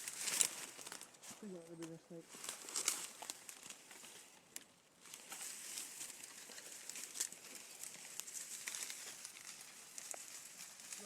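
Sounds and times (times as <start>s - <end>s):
footsteps crunching through dry leaves: 0.0s - 4.4s, 5.0s - 11.0s.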